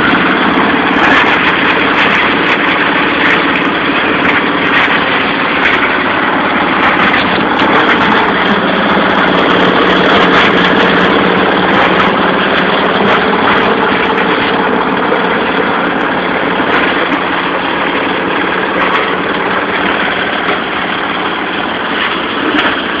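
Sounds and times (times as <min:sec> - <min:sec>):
motor hum: 0:00.0 - 0:23.0
plastic grinding: 0:00.0 - 0:23.0.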